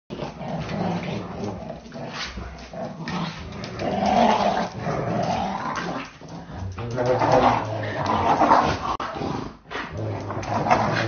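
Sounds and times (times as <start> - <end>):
dog growling: 0.1 - 11.0.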